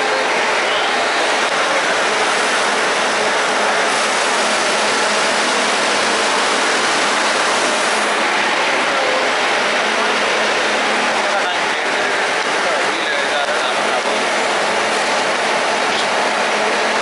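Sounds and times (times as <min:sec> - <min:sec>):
steam locomotive hissing: 0:00.0 - 0:15.6.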